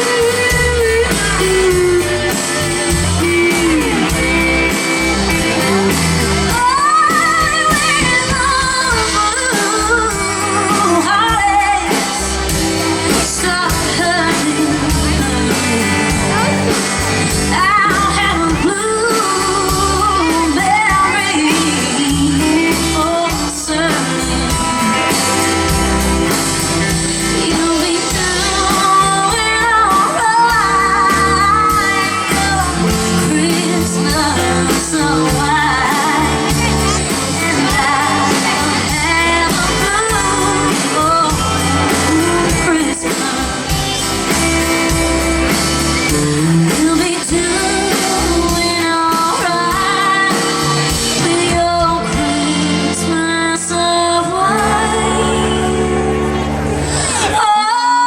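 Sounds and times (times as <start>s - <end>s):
woman singing: 0.0s - 56.5s, 57.1s - 58.0s
live band playing: 0.0s - 58.0s.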